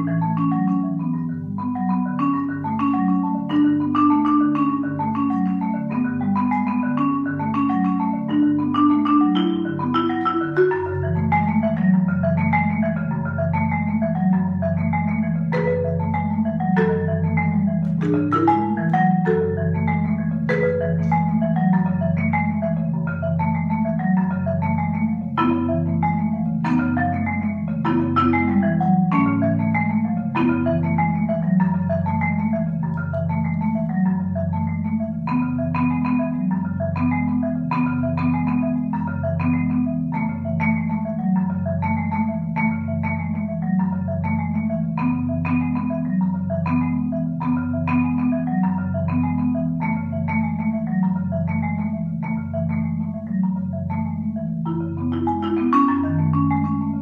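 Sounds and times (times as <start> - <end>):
marimba arpeggios: 0.0 - 57.0.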